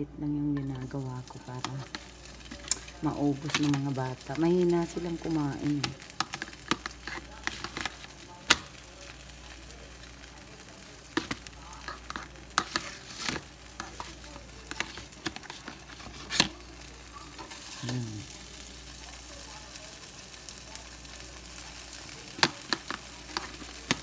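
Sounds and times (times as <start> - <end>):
batter sizzling in a pan: 0.6 - 24.0.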